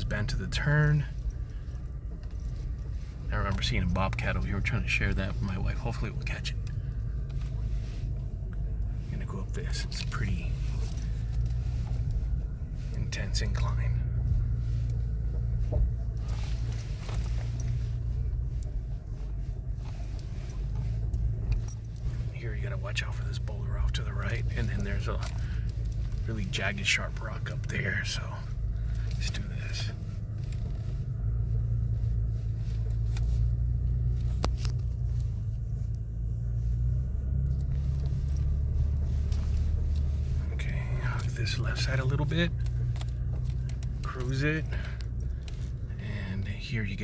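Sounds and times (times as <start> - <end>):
truck engine droning: 0.0 - 47.0.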